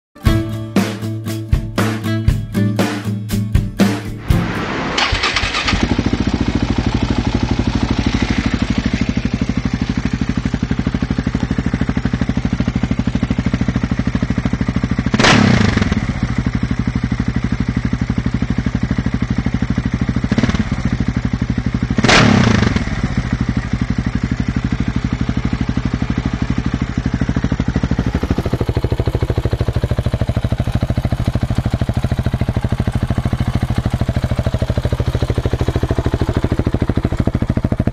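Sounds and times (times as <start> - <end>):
motorcycle engine idling and blipped: 0.2 - 37.9.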